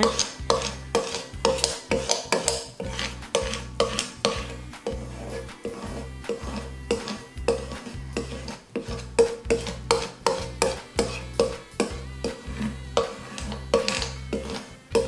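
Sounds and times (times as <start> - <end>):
background music with steady beat: 0.0 - 15.0
hand scraping tape on wood: 0.0 - 15.0.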